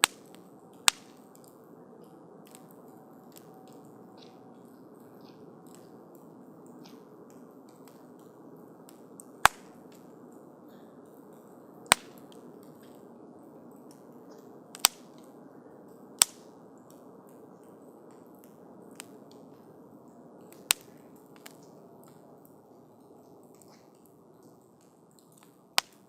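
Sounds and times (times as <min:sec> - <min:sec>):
burning wood popping: 0:00.0 - 0:26.0
campfire hissing and crackling: 0:00.0 - 0:26.0.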